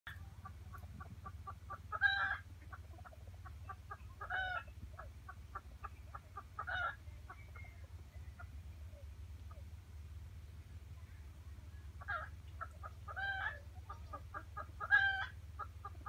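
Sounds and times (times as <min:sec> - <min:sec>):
hen calling loudly: 0:00.1 - 0:09.7, 0:11.9 - 0:16.0
hen clucking: 0:00.1 - 0:09.8, 0:11.0 - 0:16.0.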